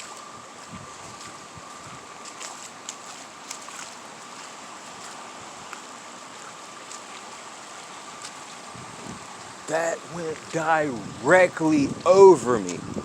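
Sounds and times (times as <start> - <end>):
faint high hum: 0.0 - 13.0
wind and rain rushing: 0.0 - 13.0.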